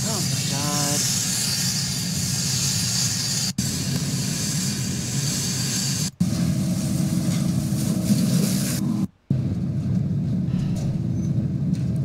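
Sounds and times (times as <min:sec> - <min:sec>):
fire burning roar: 0:00.0 - 0:12.0.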